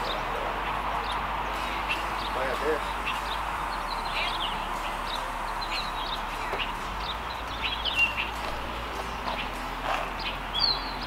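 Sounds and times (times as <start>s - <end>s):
small birds chirping: 0.0s - 11.0s
steady background noise: 0.0s - 11.0s.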